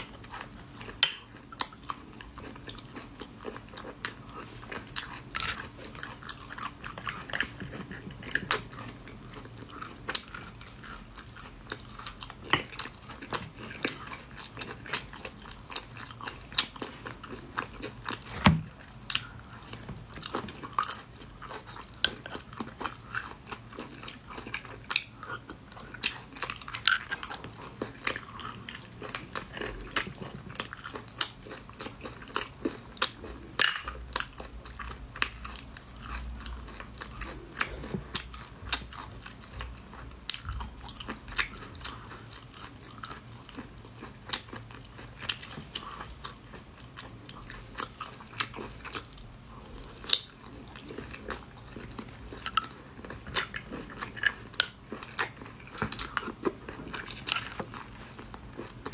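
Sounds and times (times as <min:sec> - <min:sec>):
chewing with clicks and smacks: 0:00.0 - 0:58.9.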